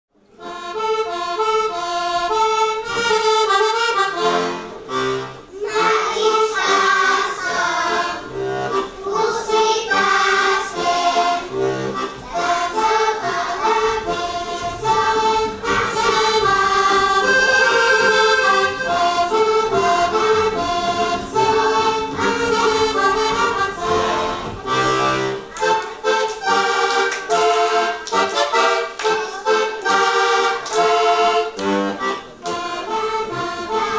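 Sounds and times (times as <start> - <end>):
accordion folk tune: 0.2 - 33.9.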